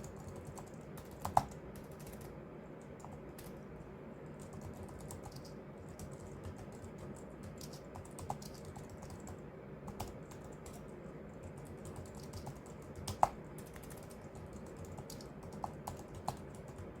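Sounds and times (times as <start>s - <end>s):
typing on computer keyboard: 0.0s - 3.6s, 4.4s - 17.0s.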